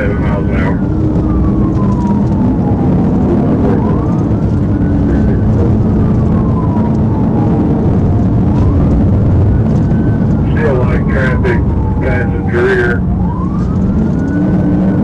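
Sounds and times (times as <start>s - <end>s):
police siren wailing: 0.0s - 15.0s
road and engine rumble: 0.0s - 15.0s.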